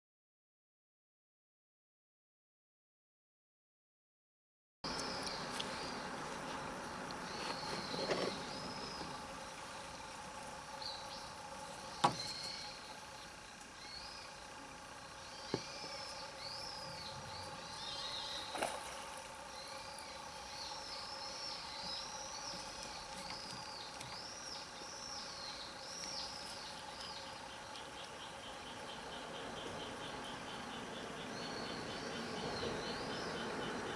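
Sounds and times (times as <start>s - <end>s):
bird singing chirped notes: 4.9s - 33.9s
faint steady background hum: 4.9s - 33.9s.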